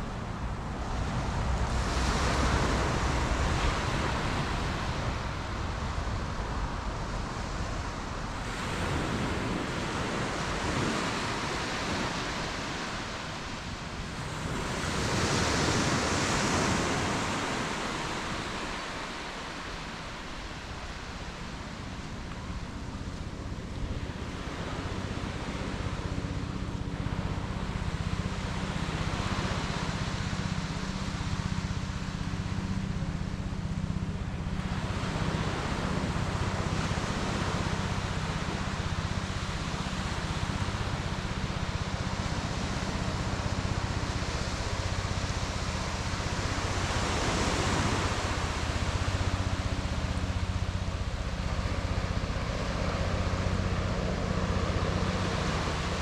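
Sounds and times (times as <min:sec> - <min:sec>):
waves washing onto beach: 0:00.0 - 0:56.0
wind rumbling on microphone: 0:00.0 - 0:56.0.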